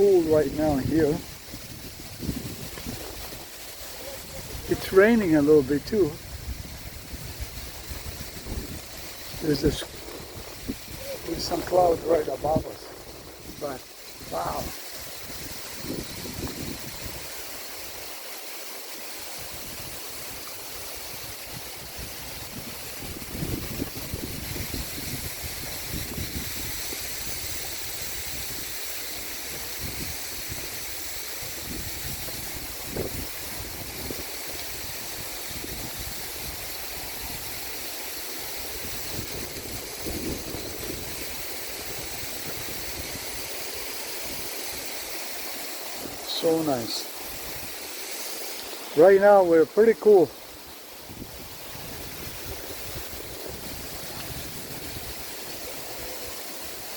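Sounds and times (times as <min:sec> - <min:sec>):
wind buffeting microphone: 0:00.0 - 0:17.4, 0:21.1 - 0:28.7, 0:29.5 - 0:37.6, 0:38.6 - 0:44.9, 0:50.1 - 0:56.4
waterfall rushing: 0:00.0 - 0:56.9.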